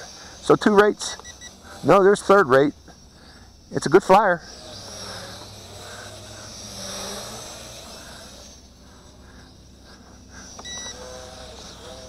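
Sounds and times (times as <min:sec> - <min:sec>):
toy quadcopter propellers buzzing: 0:00.0 - 0:12.0.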